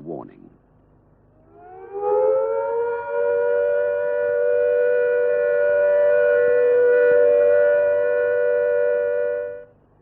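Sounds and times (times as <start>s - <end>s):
siren steady note: 1.4s - 9.7s.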